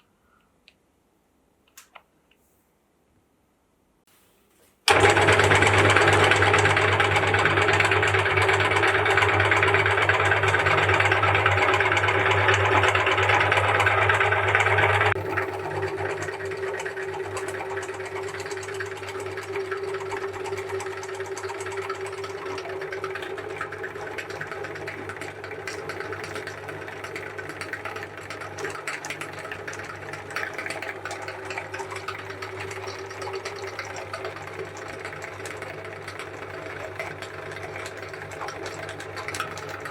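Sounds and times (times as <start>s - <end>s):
meat grinder motor hum: 4.9s - 39.9s.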